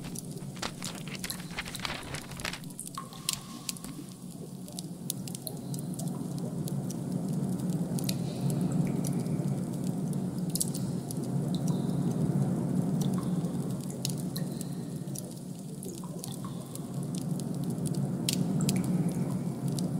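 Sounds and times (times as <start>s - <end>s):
small clicks and drip-like ticks: 0.0s - 19.9s.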